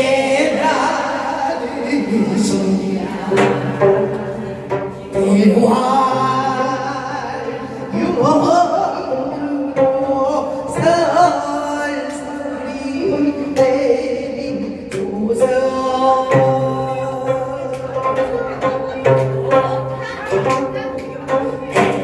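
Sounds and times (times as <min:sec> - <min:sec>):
plucked zither: 0:00.0 - 0:22.0
sustained accompaniment with beat: 0:00.0 - 0:22.0
woman singing with vibrato: 0:00.0 - 0:22.0.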